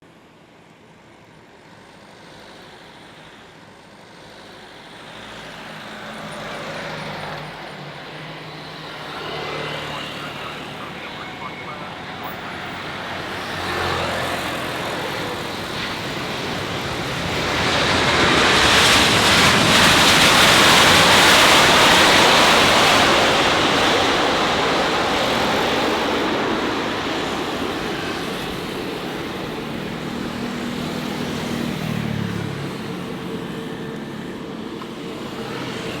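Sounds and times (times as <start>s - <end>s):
jet airliner engine roar: 0.2s - 36.0s.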